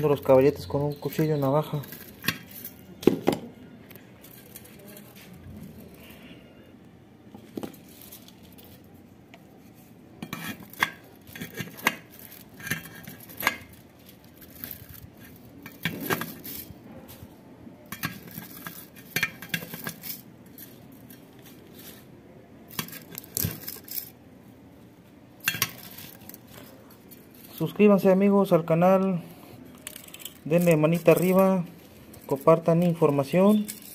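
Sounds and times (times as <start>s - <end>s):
metallic clinks and scrapes of wire: 0.0s - 3.0s, 3.9s - 6.4s, 9.6s - 17.2s, 17.9s - 22.1s, 22.7s - 24.2s, 25.4s - 33.9s.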